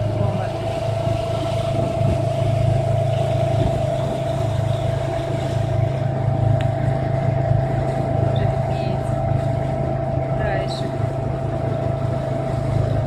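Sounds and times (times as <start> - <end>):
boat engine drone: 0.0 - 13.0
churning wake hiss: 0.0 - 13.0
high-pitched engine whine: 0.0 - 13.0.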